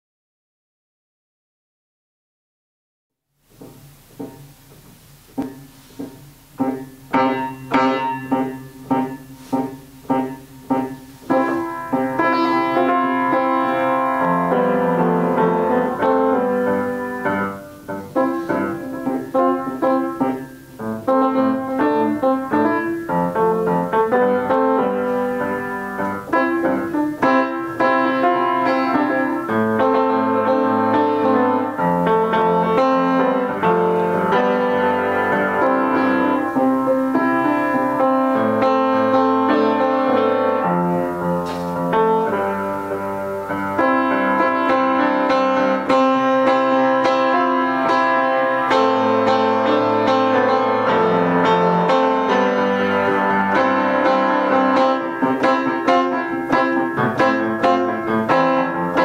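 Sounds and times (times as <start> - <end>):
upright piano playing: 3.7 - 59.0.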